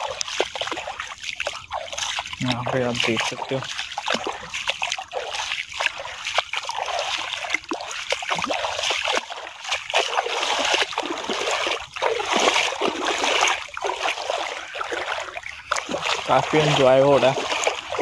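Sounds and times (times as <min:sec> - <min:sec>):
legs wading through water: 0:00.0 - 0:18.0.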